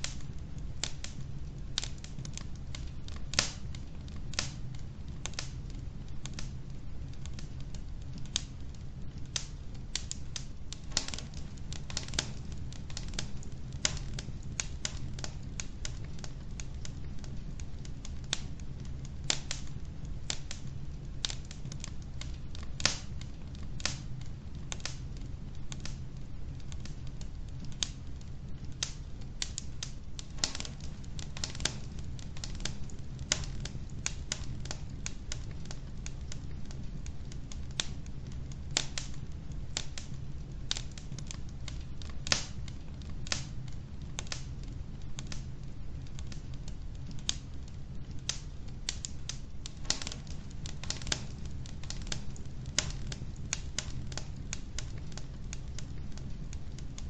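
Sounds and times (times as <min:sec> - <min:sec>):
low rumble of fire: 0:00.0 - 0:57.0
wood fire crackling and popping: 0:00.0 - 0:57.0.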